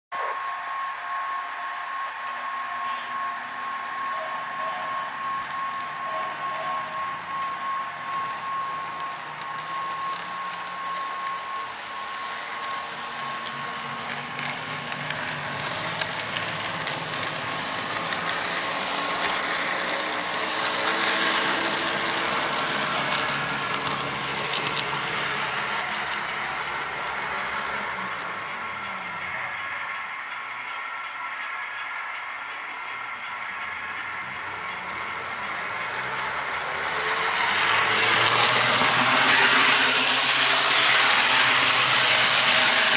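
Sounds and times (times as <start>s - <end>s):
model train motor whirring: 0.2s - 42.9s
wheels on rails: 0.2s - 42.9s.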